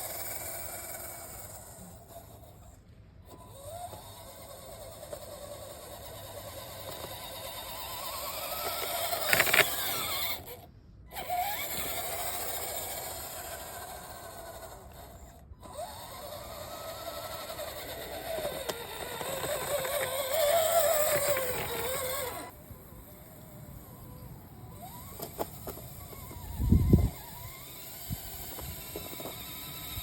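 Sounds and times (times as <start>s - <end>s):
electric motor and gears whining: 0.0s - 30.0s.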